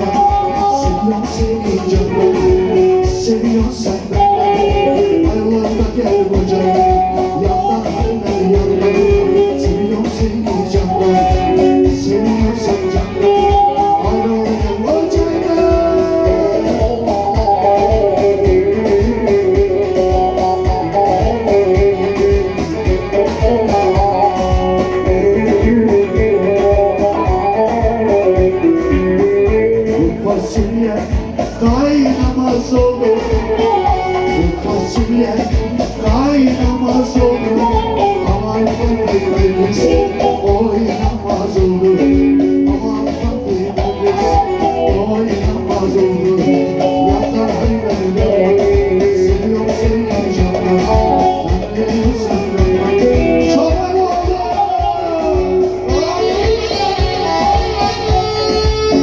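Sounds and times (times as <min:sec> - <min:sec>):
folk band through loudspeakers: 0:00.0 - 0:59.0
hand drum beat: 0:00.0 - 0:59.0
keyboard: 0:00.0 - 0:59.0.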